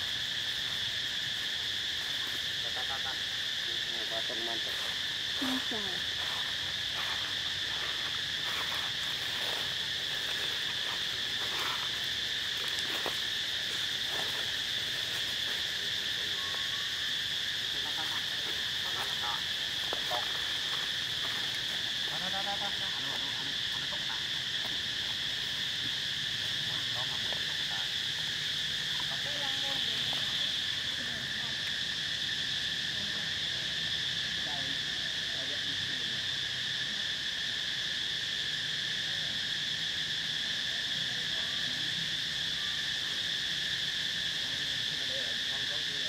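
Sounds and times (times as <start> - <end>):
insects droning in chorus: 0.0 - 46.0.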